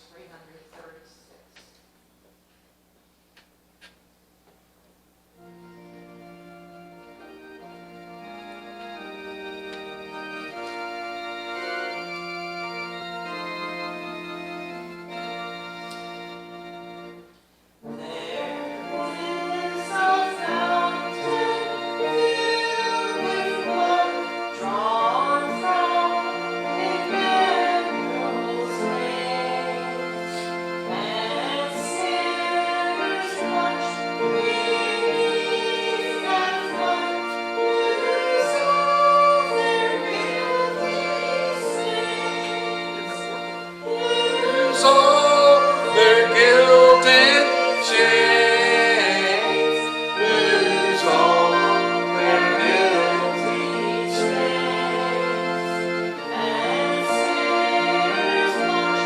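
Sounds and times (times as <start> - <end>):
instrumental accompaniment: 5.4 - 59.0
congregation singing a hymn: 5.6 - 17.2, 17.8 - 59.0.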